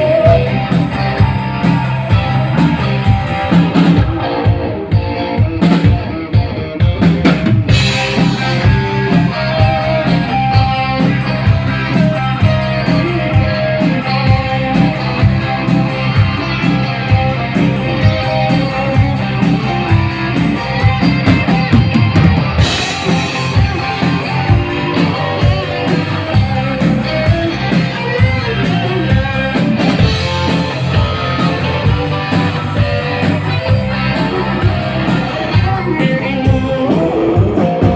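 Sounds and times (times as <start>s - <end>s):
drum kit: 0.0s - 37.9s
electric guitar: 0.0s - 37.9s.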